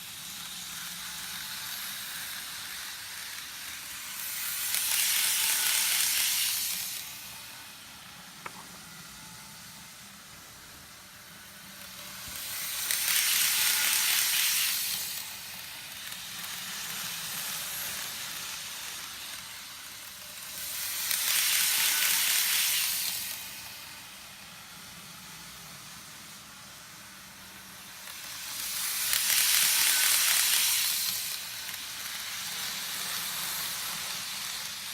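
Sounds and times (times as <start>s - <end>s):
model train wheels rattling on rail: 0.0s - 34.9s.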